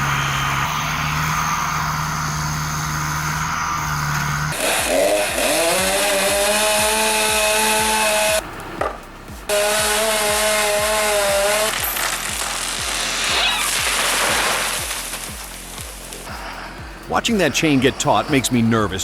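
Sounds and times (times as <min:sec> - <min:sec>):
chainsaw running: 0:00.0 - 0:08.4, 0:09.5 - 0:16.9.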